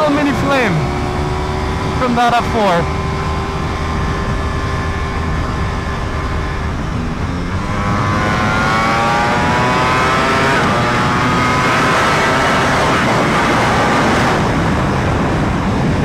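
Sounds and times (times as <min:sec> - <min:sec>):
motorcycle engine accelerating: 0:00.0 - 0:16.0
wind and road noise: 0:00.0 - 0:16.0.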